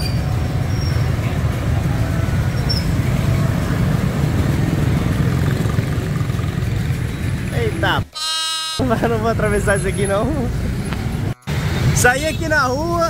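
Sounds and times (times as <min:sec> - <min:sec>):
motor scooters passing: 0:00.0 - 0:08.0, 0:08.8 - 0:12.1.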